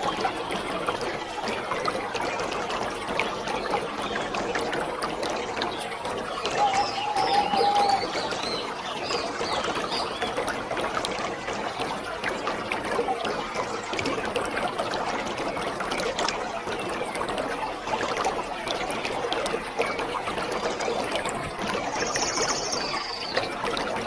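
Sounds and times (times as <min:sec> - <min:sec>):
water splashes and drips: 0:00.0 - 0:24.0.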